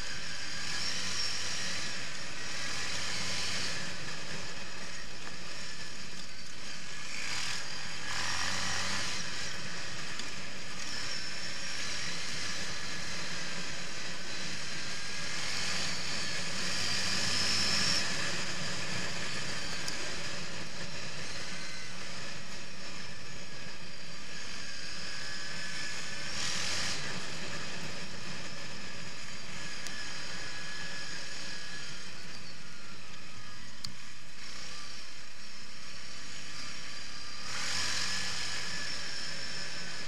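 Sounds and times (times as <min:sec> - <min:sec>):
quad bike engine running: 0:00.0 - 0:40.0.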